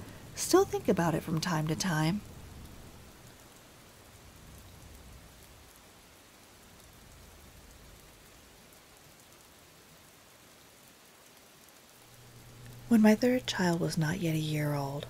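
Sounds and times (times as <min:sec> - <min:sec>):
faint rain falling: 0:00.0 - 0:15.0.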